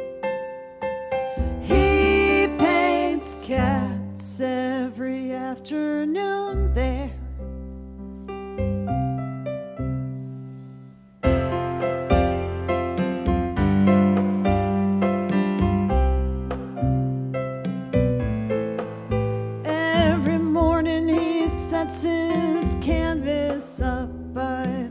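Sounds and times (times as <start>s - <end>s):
digital keyboard piano: 0.0s - 24.9s.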